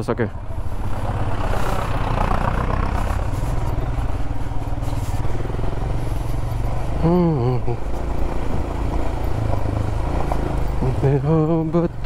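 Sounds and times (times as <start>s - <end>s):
motorcycle engine running: 0.3s - 12.0s.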